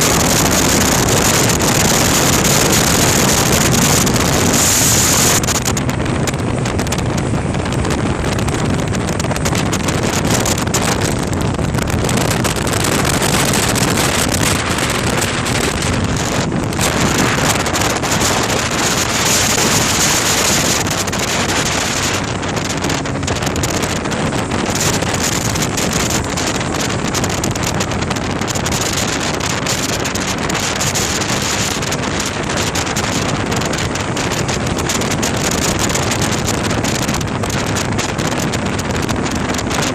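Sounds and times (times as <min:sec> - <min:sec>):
car engine and exhaust: 0:00.0 - 0:39.9
wind noise on microphone: 0:00.0 - 0:39.9.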